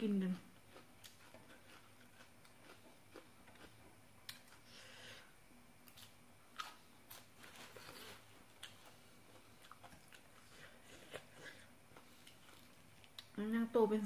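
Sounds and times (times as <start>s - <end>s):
chewing and mouth sounds: 0.6s - 4.6s, 5.8s - 13.4s.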